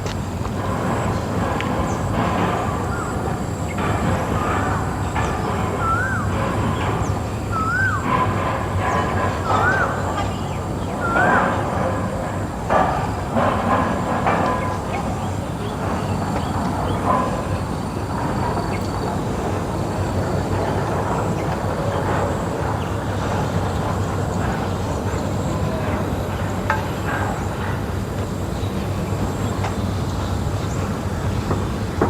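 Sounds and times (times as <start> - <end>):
low rumbling background noise: 0.0 - 32.0.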